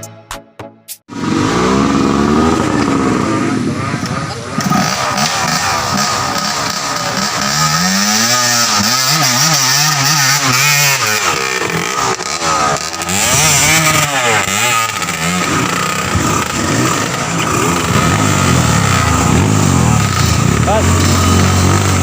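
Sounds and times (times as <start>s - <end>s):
dirt bike engine revving: 1.1s - 22.0s.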